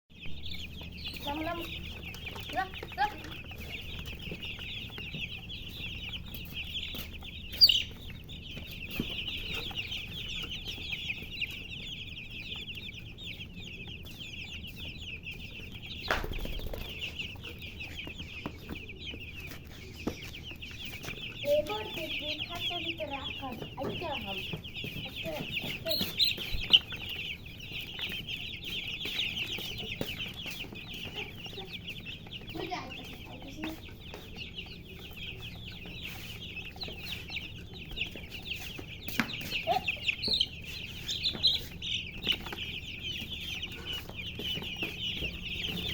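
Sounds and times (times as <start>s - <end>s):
baby chicks peeping: 0.1s - 45.9s.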